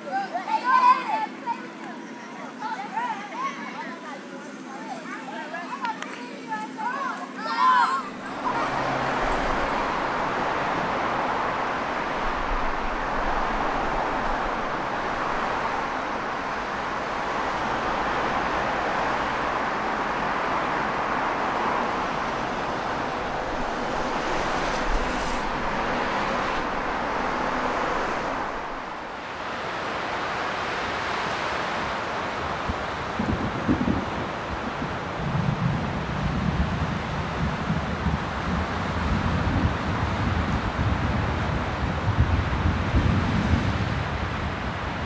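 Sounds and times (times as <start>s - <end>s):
cars passing at speed: 8.0s - 45.0s.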